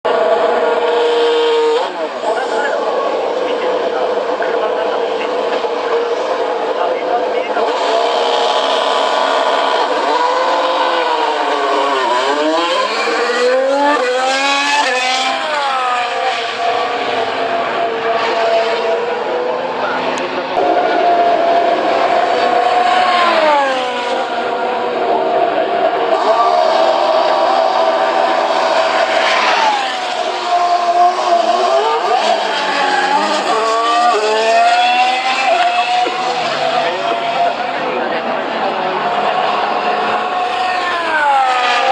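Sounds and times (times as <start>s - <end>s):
racing car engines accelerating: 0.1s - 41.9s.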